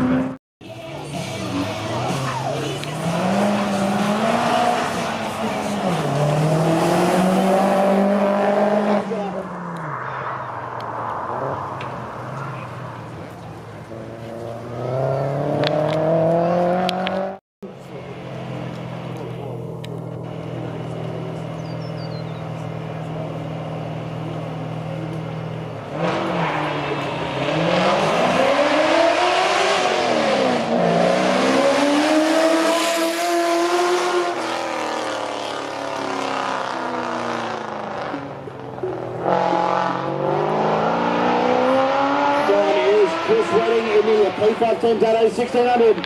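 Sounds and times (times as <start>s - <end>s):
race car engine revving: 1.1s - 46.0s.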